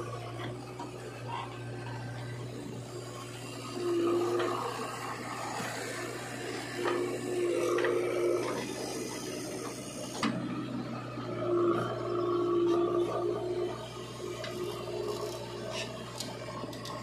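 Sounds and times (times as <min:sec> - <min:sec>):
diesel engine droning: 0:00.0 - 0:17.0
high machine whine: 0:00.0 - 0:17.0.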